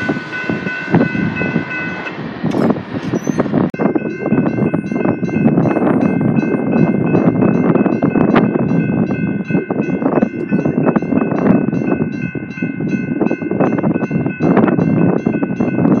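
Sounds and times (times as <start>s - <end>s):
freight train rumbling past: 0.0s - 16.0s
railroad crossing bell ringing: 0.0s - 16.0s.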